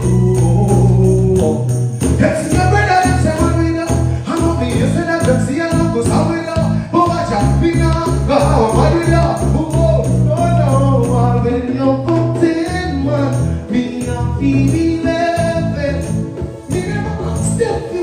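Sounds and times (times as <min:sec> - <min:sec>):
bass line: 0:00.0 - 0:18.0
held keyboard notes: 0:00.0 - 0:18.0
man singing: 0:00.0 - 0:18.0
steady beat: 0:00.0 - 0:18.0.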